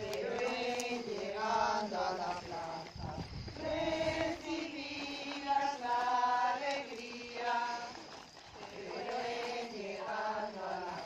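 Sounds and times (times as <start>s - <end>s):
women singing a hymn: 0.0s - 11.0s.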